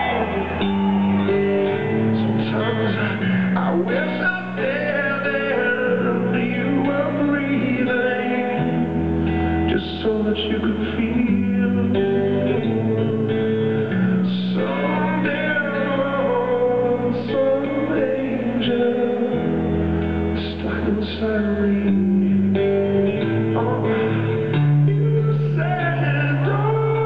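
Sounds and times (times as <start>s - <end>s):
live acoustic guitar music: 0.0s - 27.0s.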